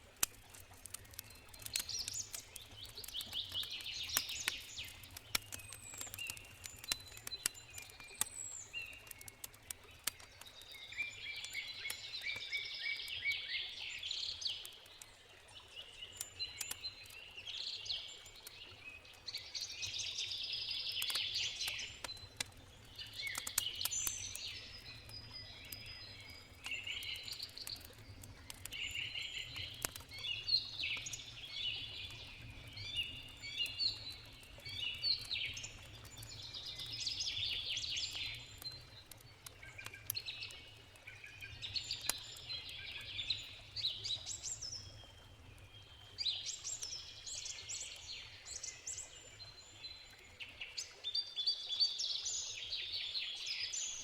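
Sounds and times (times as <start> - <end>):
campfire crackling: 0.0 - 51.0
birds singing: 0.9 - 15.0, 15.6 - 54.0.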